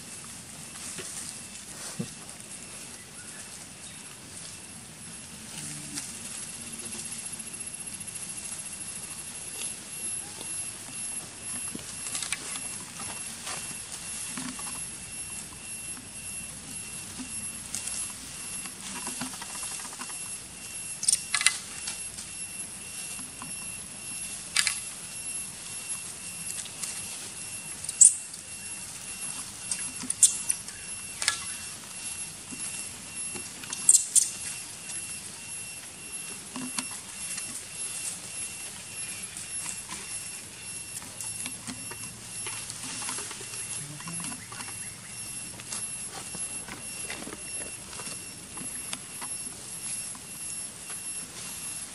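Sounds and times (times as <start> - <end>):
faint high whine: 0.0 - 51.9
monkeys eating and rustling: 0.0 - 51.9.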